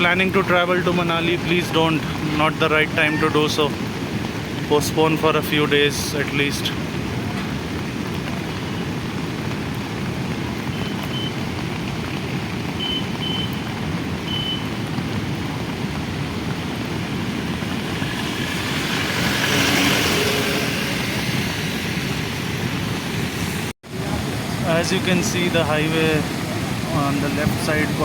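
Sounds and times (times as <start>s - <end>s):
roar of rushing floodwater: 0.0s - 28.0s.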